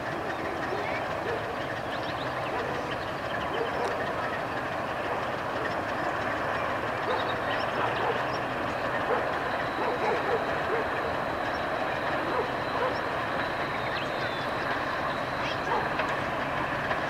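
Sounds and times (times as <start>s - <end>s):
distant diesel locomotive engine: 0.0s - 17.0s.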